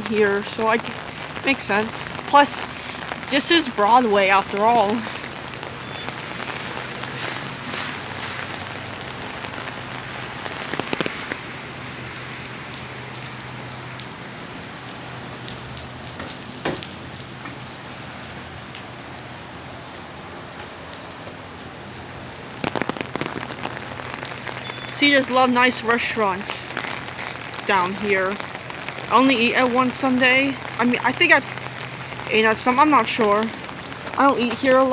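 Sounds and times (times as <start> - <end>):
pouring rain on street: 0.0 - 34.9.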